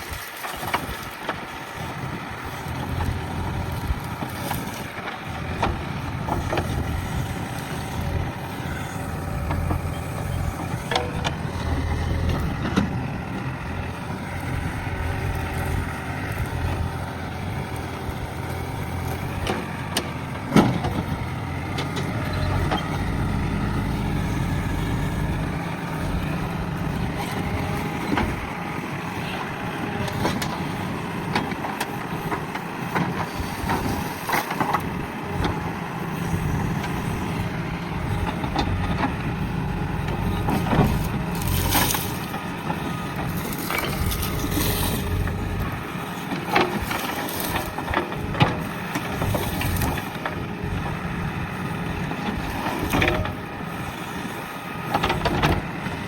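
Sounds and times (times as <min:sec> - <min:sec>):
diesel engine running: 0:00.0 - 0:56.0
knocks and scrapes of soil: 0:00.0 - 0:56.0.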